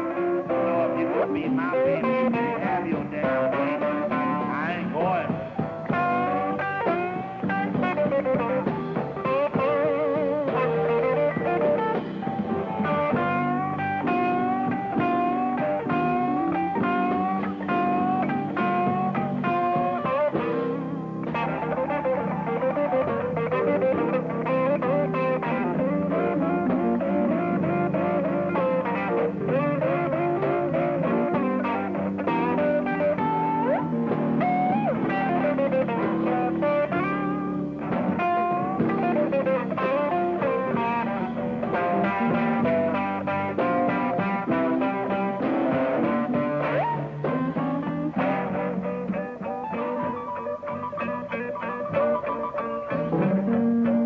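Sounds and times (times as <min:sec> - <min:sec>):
blues band playing: 0:00.0 - 0:54.0
electric guitar bent notes: 0:00.0 - 0:54.0.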